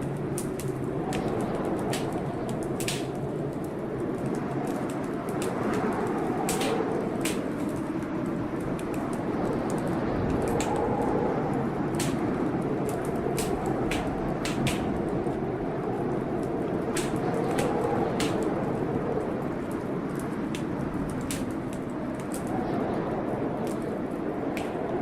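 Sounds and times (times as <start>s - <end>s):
storm noise: 0.0s - 25.0s
wood fire crackling and popping: 0.0s - 25.0s.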